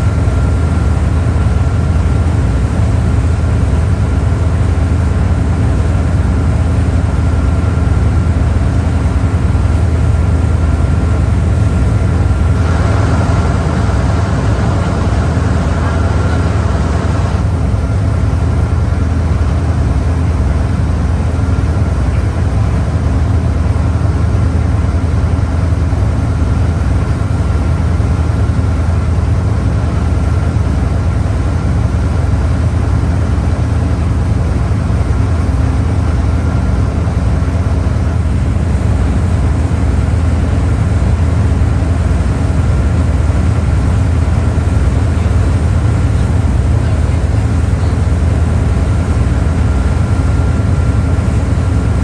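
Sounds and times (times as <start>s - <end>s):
faint steady whine: 0.0s - 24.4s, 28.6s - 52.0s
motorboat engine drone: 0.0s - 52.0s.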